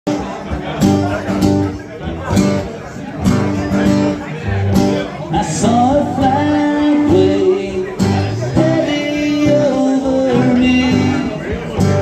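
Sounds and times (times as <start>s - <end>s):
acoustic guitar strumming: 0.1s - 12.0s.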